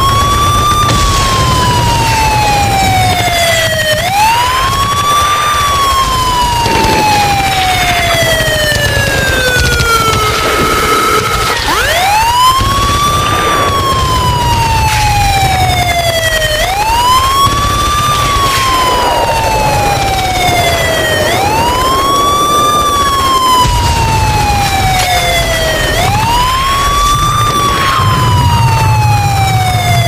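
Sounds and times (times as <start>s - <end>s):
warning siren wailing: 0.0s - 30.0s.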